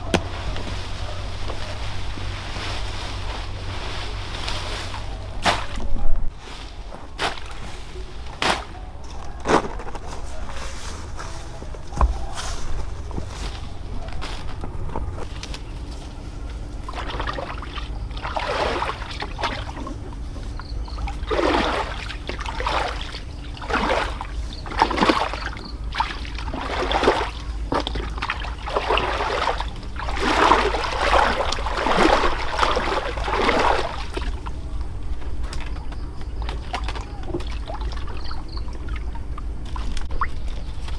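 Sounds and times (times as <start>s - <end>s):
steady low rumble: 0.0s - 40.9s
water splashing and sloshing: 0.0s - 40.9s.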